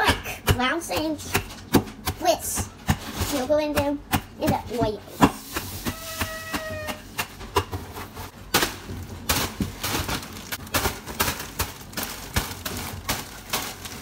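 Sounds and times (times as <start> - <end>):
rolling pin pounding cookies: 0.0 - 14.0.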